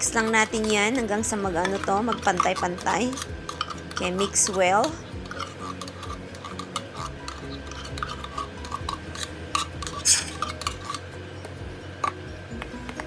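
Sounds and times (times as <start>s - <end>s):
utensil clattering: 0.0s - 12.2s
utensil scraping a bowl: 0.0s - 12.2s.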